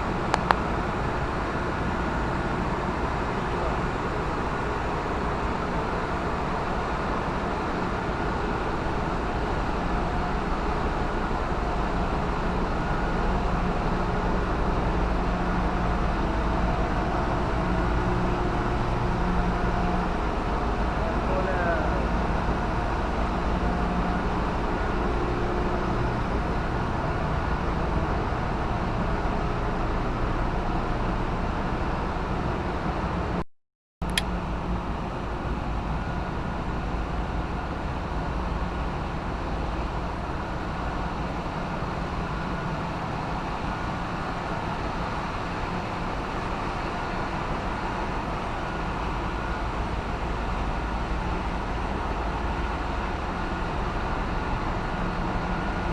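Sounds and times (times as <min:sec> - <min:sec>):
engine room machinery hum: 0:00.0 - 0:33.4, 0:34.0 - 0:55.9.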